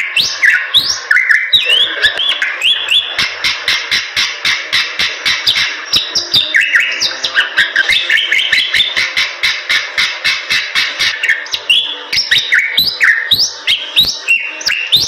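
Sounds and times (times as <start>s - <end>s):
bird whistled notes: 0.0s - 3.1s, 4.7s - 15.0s.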